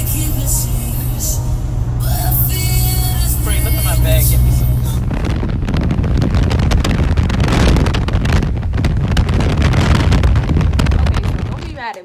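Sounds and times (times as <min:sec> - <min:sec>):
low road noise rumble: 0:00.0 - 0:12.0
wind buffeting microphone: 0:00.0 - 0:12.0.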